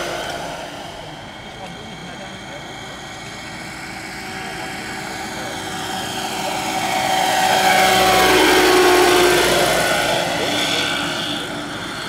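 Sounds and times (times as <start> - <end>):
model helicopter rotor and motor whine: 0.0 - 12.0.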